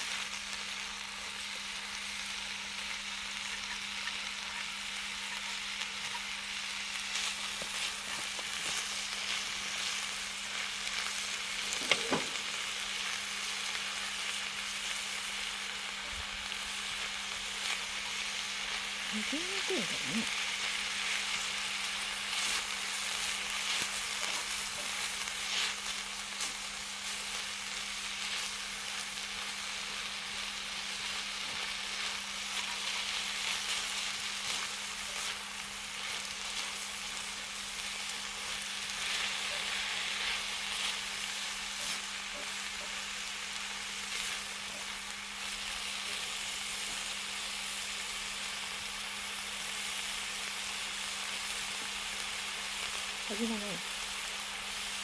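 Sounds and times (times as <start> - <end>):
food sizzling: 0.0 - 55.0
fire crackling: 5.8 - 55.0.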